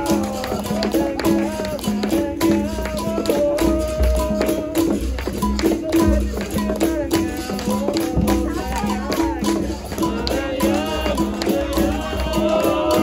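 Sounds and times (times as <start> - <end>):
berimbau notes: 0.0 - 13.0
low drum beat: 0.0 - 13.0
shaker rattles: 0.0 - 13.0
voices singing: 0.0 - 13.0.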